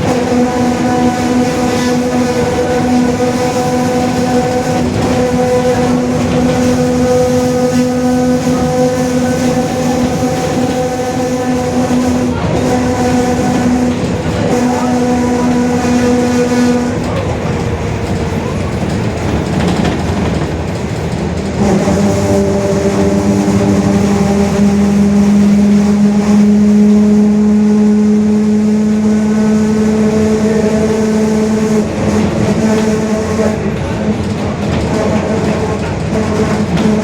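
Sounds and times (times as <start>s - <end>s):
bus differential droning: 0.0s - 37.0s.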